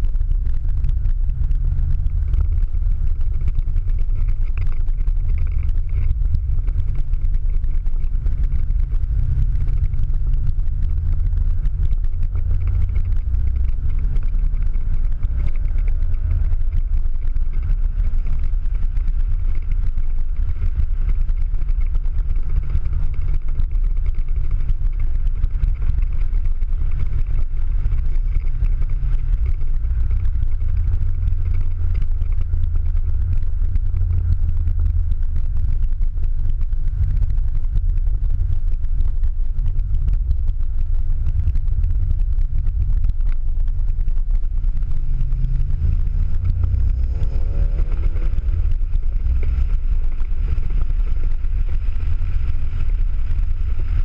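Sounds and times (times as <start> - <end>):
car engine running from inside cabin: 0.0 - 54.0.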